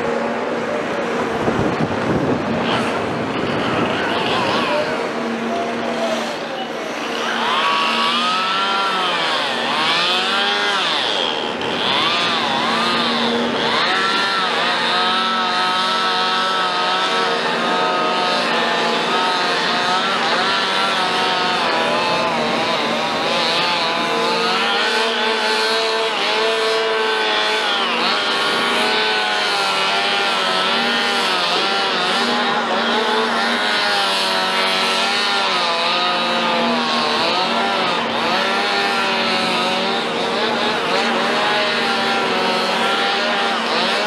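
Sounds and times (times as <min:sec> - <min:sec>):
diesel engine running: 0:00.0 - 0:44.0
hydraulic whine: 0:00.0 - 0:44.0.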